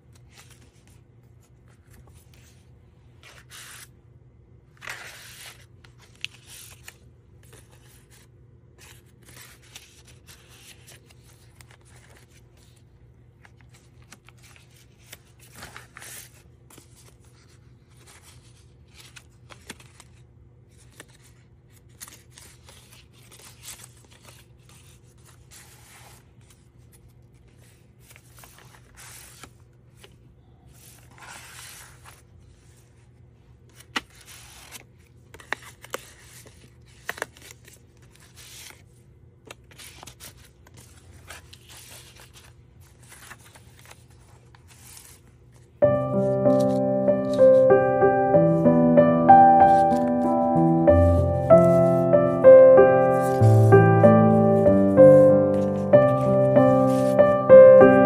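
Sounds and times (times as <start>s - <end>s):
paper pages rustling: 0.0s - 4.0s, 4.7s - 58.0s.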